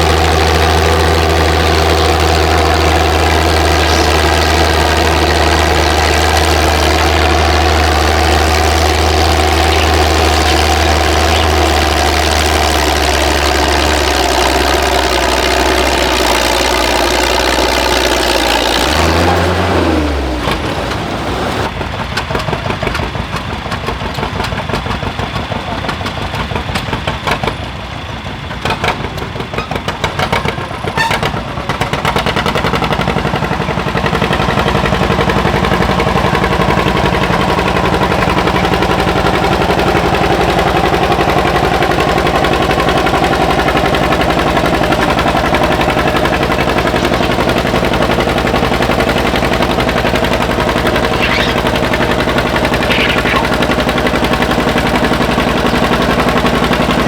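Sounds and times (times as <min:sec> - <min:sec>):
engine deep hum: 0:00.0 - 0:57.0
rattling engine with pops: 0:00.0 - 0:57.0.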